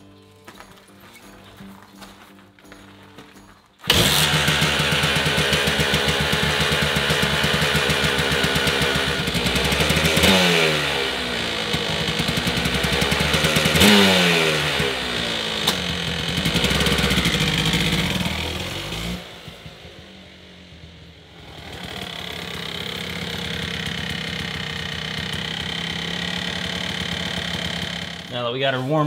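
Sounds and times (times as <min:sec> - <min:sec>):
motorcycle engine revving: 0:02.7 - 0:29.0.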